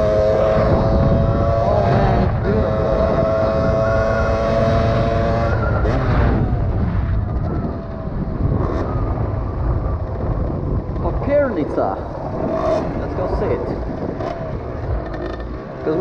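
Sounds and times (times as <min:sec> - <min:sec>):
dirt bike engine running: 0:00.0 - 0:16.0
wind on microphone: 0:00.0 - 0:16.0.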